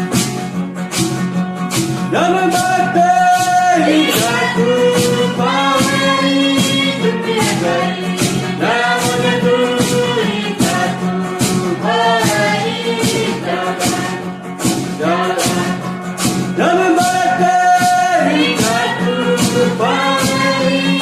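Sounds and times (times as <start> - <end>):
percussion beat: 0.0 - 21.0
group of voices singing: 2.1 - 21.0.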